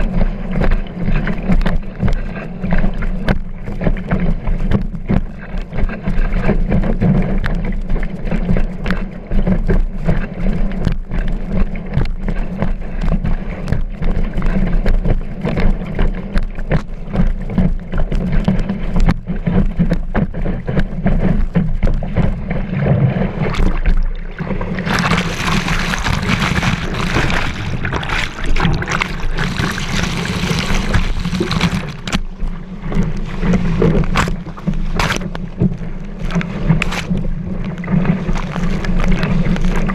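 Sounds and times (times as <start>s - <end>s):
water rushing under board: 0.0s - 39.9s.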